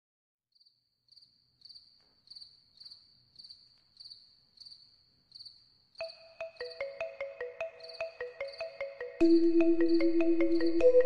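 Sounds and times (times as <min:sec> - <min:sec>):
cricket chirping: 0:00.6 - 0:11.0.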